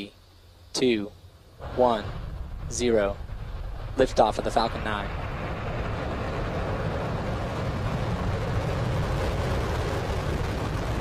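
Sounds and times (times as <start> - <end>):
deep rocket rumble: 0.8 - 11.0.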